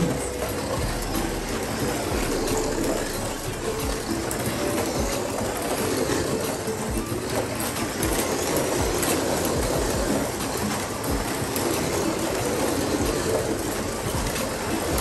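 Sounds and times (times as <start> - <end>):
slot car motors whirring: 0.0 - 15.0.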